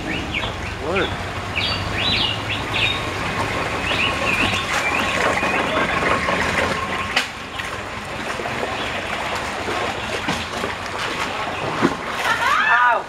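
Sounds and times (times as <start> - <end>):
water washing past boat hull: 0.0 - 13.0.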